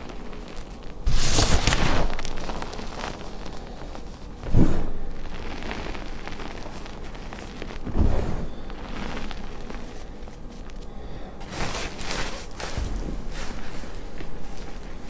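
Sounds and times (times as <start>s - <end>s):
chalk powder crumbling and pattering: 0.0s - 4.5s, 5.1s - 15.0s
crisp chalk crunching: 0.0s - 15.0s.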